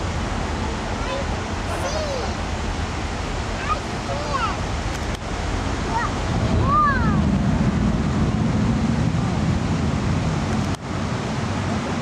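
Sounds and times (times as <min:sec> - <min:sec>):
cascading water: 0:00.0 - 0:12.0
deep rumble: 0:00.0 - 0:12.0
rush of flames: 0:00.0 - 0:12.0.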